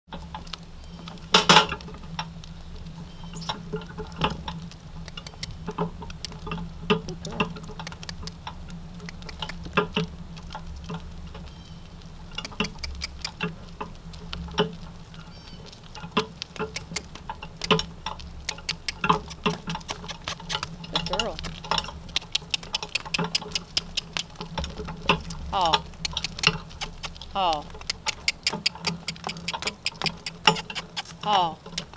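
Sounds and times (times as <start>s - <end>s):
hooves clopping on wet pavement: 0.1s - 31.9s
low hum: 0.1s - 31.9s.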